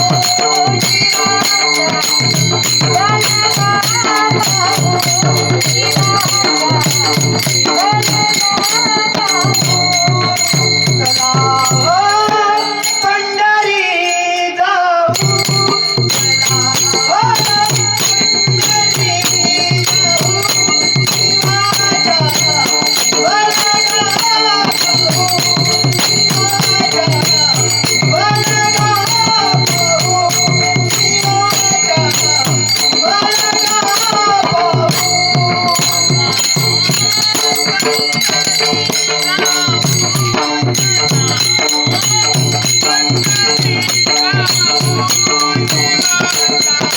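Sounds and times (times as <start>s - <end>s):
girl singing devotional song: 0.0s - 40.7s
jingling percussion: 0.0s - 46.9s.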